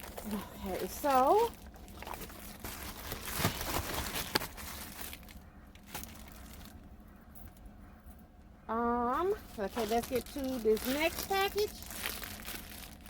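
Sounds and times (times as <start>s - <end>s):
packaging rustling and crinkling: 0.0s - 6.9s, 9.4s - 13.0s.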